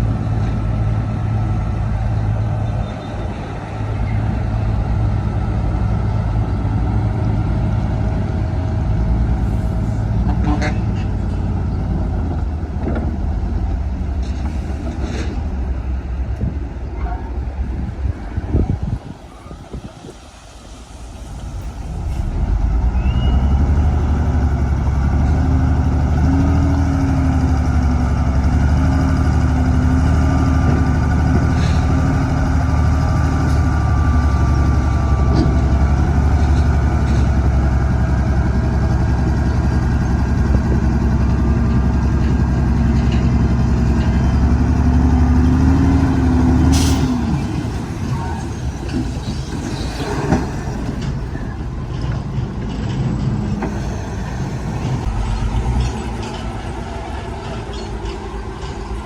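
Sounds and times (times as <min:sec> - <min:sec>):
heavy diesel engine under load: 0:00.0 - 0:59.0.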